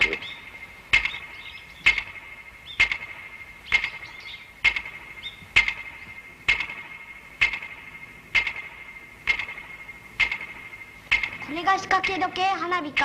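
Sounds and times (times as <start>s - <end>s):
clockwork timer ticking: 0.0s - 13.0s.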